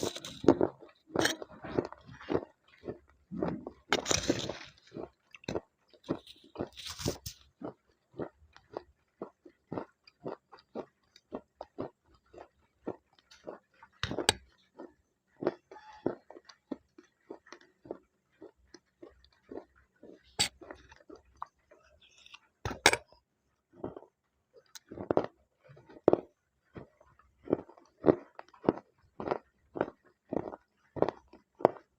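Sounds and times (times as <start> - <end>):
pencil being bitten and chewed: 0.0 - 23.0, 23.8 - 31.9.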